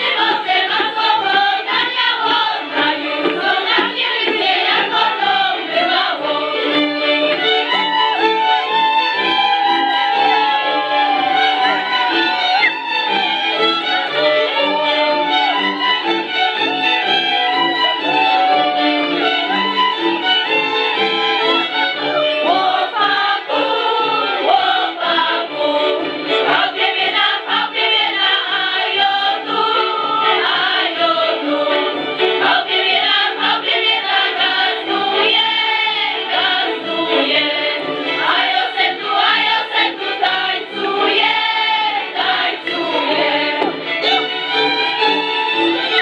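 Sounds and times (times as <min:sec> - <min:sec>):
fiddle playing: 0:00.0 - 0:46.0
group singing folk song: 0:00.0 - 0:46.0.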